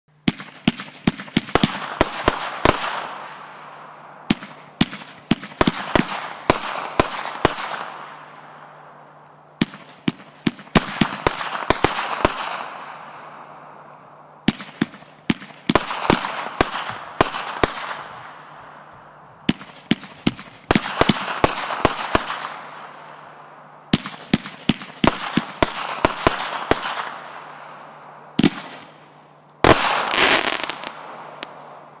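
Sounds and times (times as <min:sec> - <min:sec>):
firework volleys of sharp bangs: 0:00.2 - 0:32.0.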